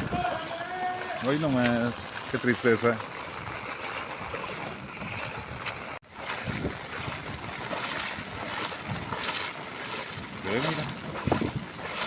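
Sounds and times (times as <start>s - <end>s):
wind noise on microphone: 0.0s - 1.3s, 3.1s - 12.0s.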